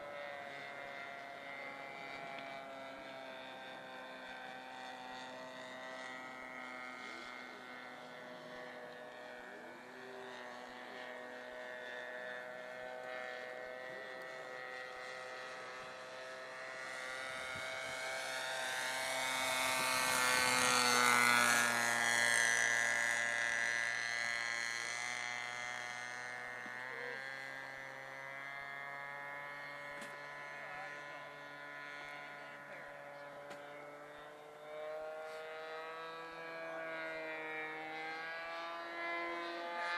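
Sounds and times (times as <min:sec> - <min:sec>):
model airplane engine droning: 0:00.0 - 0:39.9.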